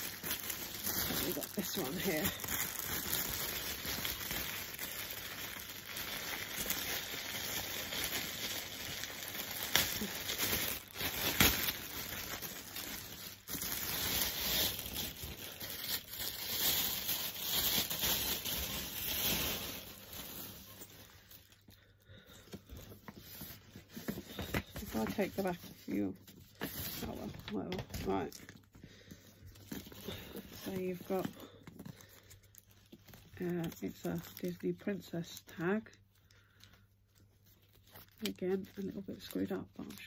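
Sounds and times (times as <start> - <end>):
plastic bag crinkling: 0.0 - 40.0.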